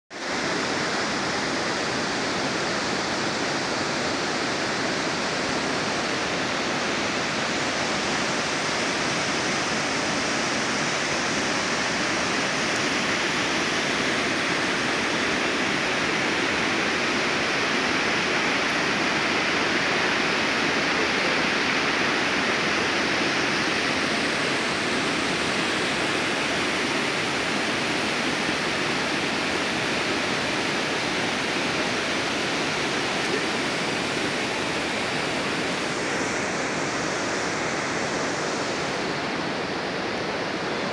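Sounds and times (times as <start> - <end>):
waterfall rushing over rocks: 0.1 - 40.9.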